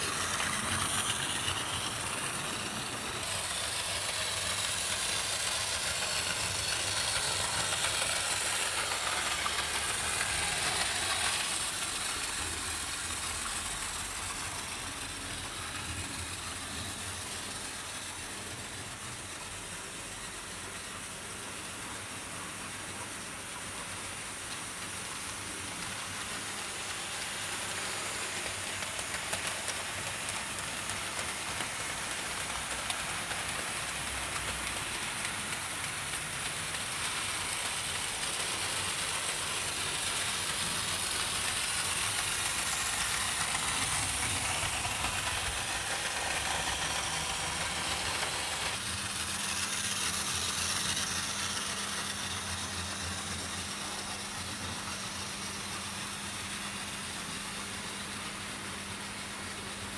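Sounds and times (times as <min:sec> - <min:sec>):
model trains whirring on track: 0:00.0 - 0:59.9.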